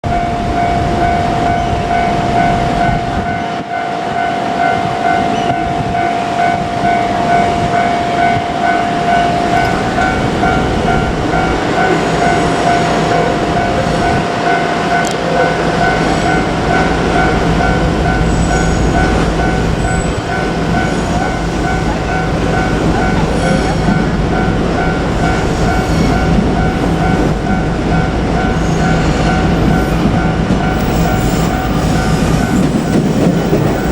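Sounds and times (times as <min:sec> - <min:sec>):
electric train passing: 0:00.0 - 0:33.9
level-crossing warning bell ringing: 0:00.0 - 0:33.9.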